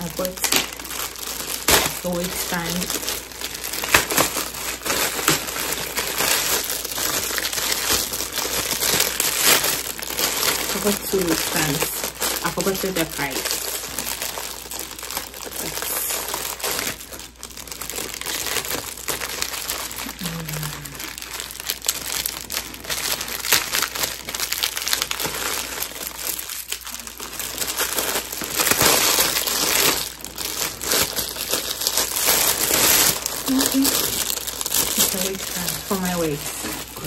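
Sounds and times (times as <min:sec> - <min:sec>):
plastic wrapping crinkling: 0:00.0 - 0:37.0
scissors cutting package: 0:00.0 - 0:37.0.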